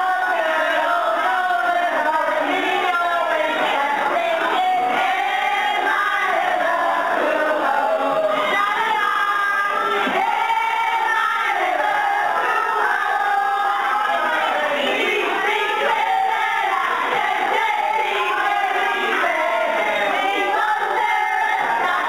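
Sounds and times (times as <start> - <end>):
women singing in chorus: 0.0 - 22.0.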